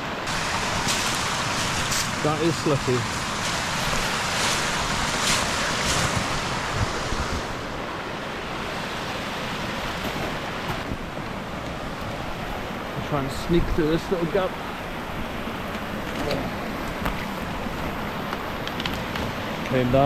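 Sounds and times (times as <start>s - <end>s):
river rushing over rocks: 0.0s - 20.0s.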